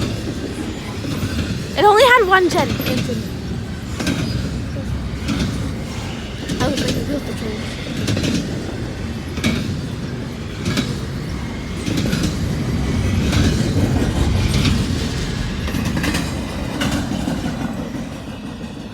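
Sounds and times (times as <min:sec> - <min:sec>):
freight train rumbling past: 0:00.0 - 0:18.9
wheels clicking over rail joints: 0:00.0 - 0:18.9.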